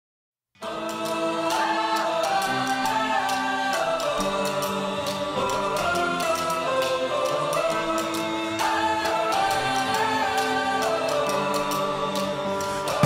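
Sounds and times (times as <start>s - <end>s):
instrumental music with held chords: 0.6s - 13.0s.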